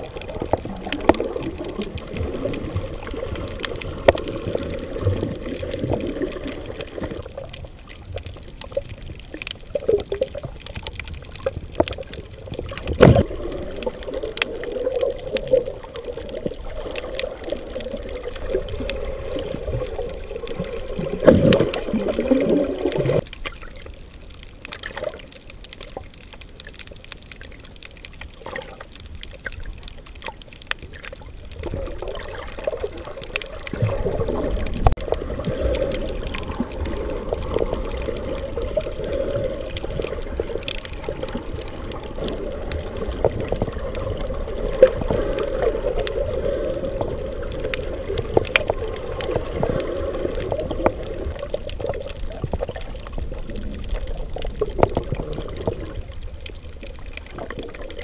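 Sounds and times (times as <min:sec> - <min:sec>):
muffled underwater sloshing: 0:00.0 - 0:58.0.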